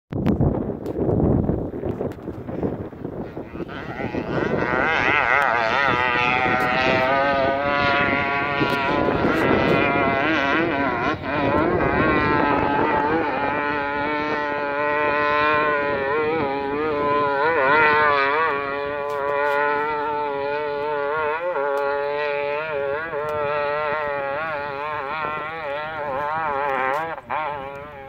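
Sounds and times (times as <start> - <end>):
motorcycle engine revving hard: 3.2 - 28.0.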